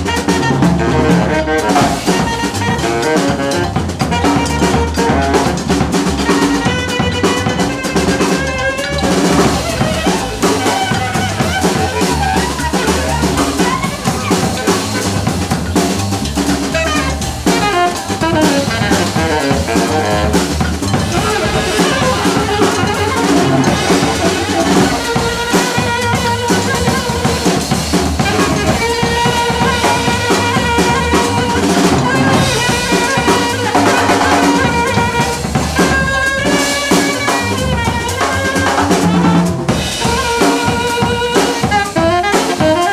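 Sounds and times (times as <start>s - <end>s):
acoustic bass line: 0.0s - 42.9s
drum kit rimshots and snare: 0.0s - 42.9s
jazz band playing: 0.0s - 42.9s
wind instrument melody: 0.0s - 42.9s.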